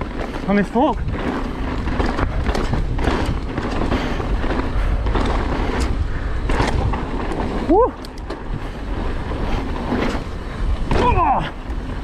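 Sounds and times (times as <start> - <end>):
bike knocking and rattling: 0.0 - 12.0
tyre and wind rush: 0.0 - 12.0.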